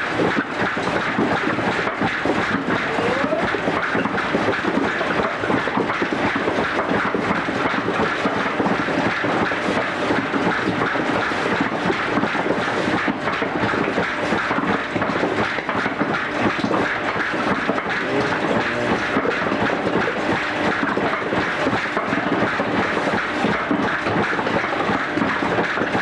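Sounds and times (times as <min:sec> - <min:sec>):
workshop machinery clattering: 0:00.0 - 0:26.0.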